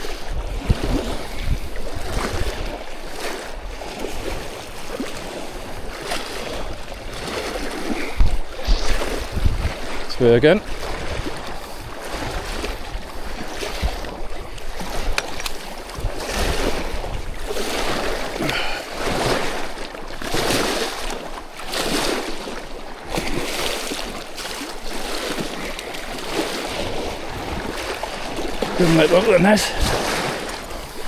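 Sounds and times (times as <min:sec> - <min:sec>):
water washing and splashing: 0:00.0 - 0:31.0
wind rumbling on microphone: 0:00.0 - 0:31.0.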